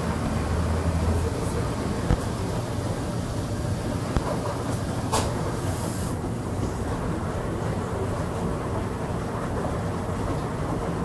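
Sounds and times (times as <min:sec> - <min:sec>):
washing machines rumbling: 0:00.0 - 0:11.0.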